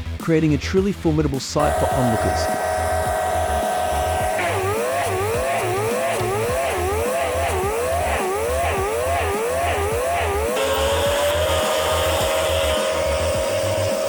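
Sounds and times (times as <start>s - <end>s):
wood chipper engine: 1.6s - 14.0s.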